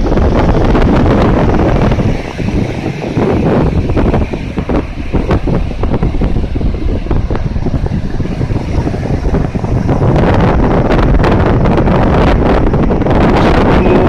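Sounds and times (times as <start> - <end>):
sea surf on beach: 0.0 - 14.0
strong wind buffeting microphone: 0.0 - 14.0.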